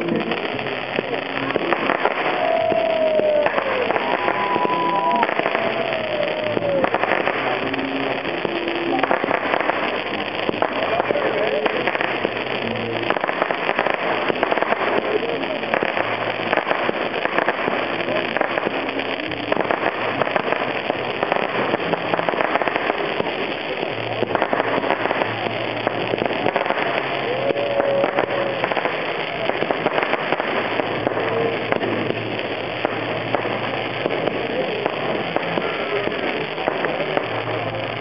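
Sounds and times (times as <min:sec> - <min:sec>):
fireworks hissing and crackling: 0:00.0 - 0:38.0.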